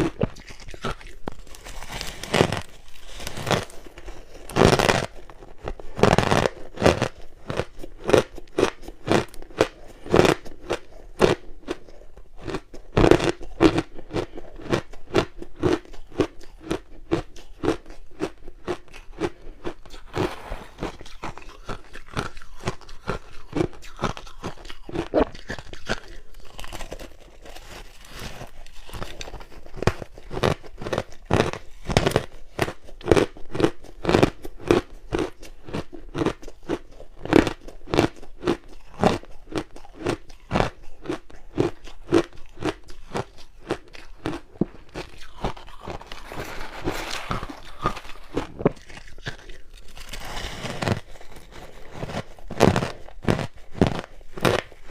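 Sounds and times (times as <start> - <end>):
ice crunching between teeth: 0.0 - 54.9.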